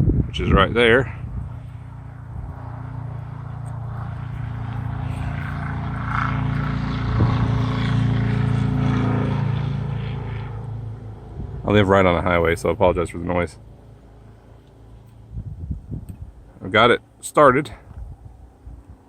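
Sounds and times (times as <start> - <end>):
vehicle passing on highway: 0.0 - 19.0.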